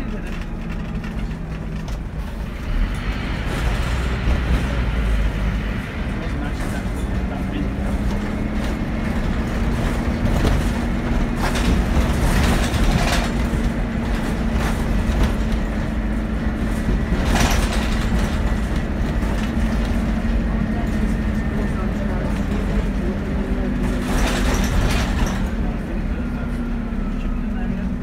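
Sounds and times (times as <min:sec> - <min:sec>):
bus diesel engine droning: 0:00.0 - 0:28.0
rumbling road noise: 0:00.0 - 0:28.0.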